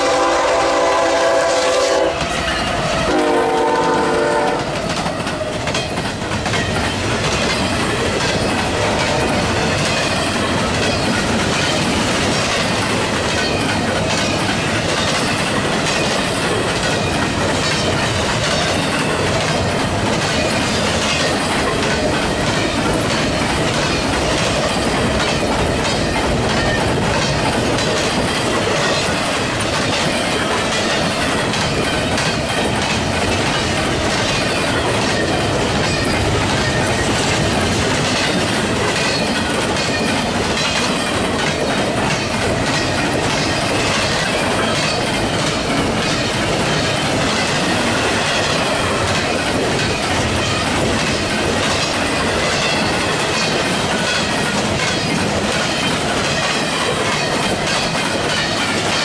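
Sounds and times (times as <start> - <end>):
high wheel squeal on rails: 0.0 - 59.0
train cars rolling past: 0.0 - 59.0
wheels clacking over rail joints: 0.0 - 59.0.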